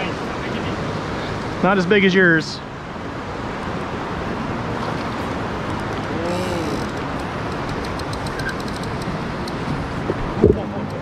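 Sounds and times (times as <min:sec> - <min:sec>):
river water rushing over boulders: 0:00.0 - 0:11.0.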